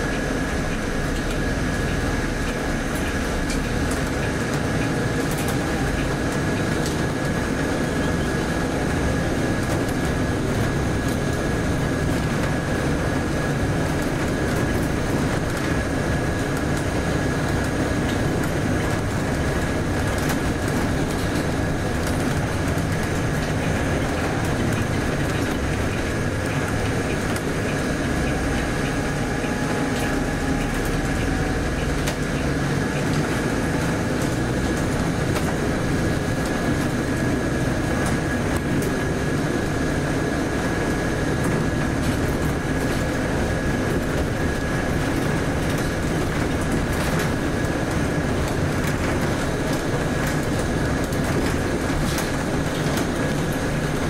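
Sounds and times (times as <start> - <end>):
bus diesel engine and road drone: 0.0 - 54.0.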